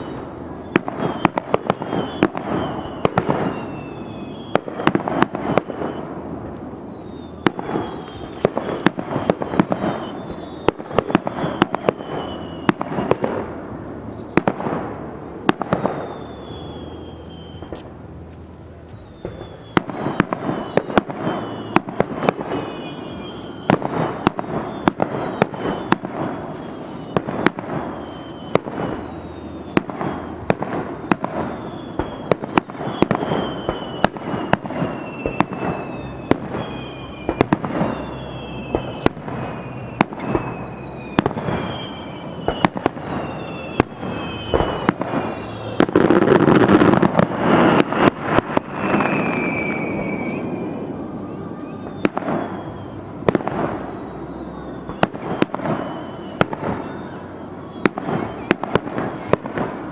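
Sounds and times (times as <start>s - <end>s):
firework whistles falling in pitch: 0.0s - 59.9s
fireworks bursting with sharp bangs: 0.0s - 59.9s
loud firework crackling: 0.0s - 59.9s.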